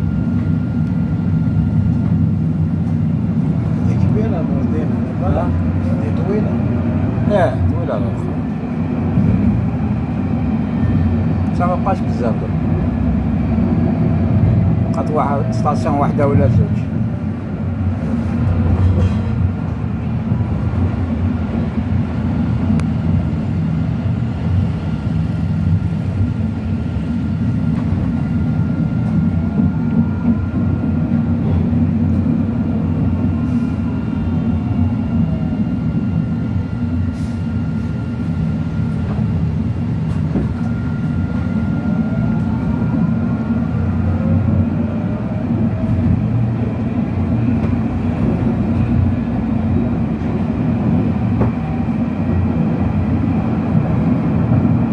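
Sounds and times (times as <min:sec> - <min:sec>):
tram motor whine: 0:00.0 - 0:54.9
tram rumble: 0:00.0 - 0:54.9.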